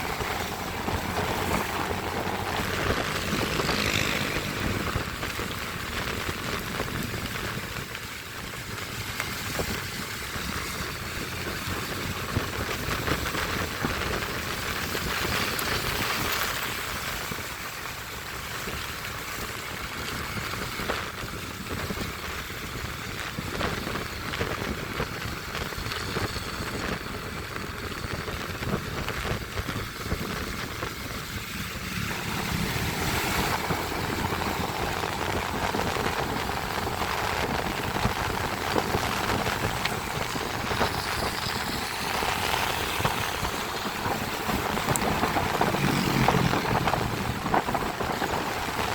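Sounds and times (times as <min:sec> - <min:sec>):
rain hiss: 0:00.0 - 0:48.9
traffic on a wet road: 0:00.0 - 0:48.9.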